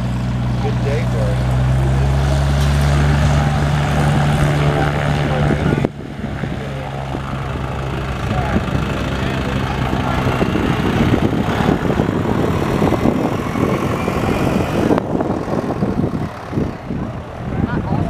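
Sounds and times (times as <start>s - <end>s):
engine hum: 0.0s - 18.0s
rough rumbling noise: 0.0s - 18.0s.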